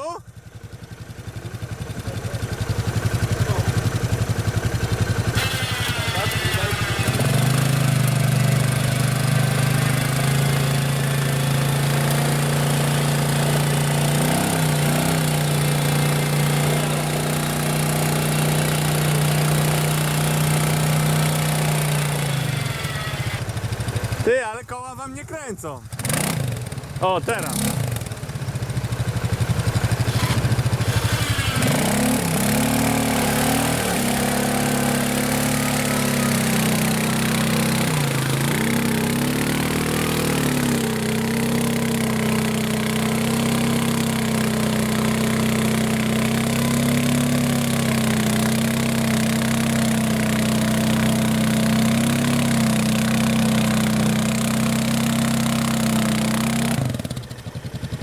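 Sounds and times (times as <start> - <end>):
off-road vehicle engine under load: 0.0 - 58.0.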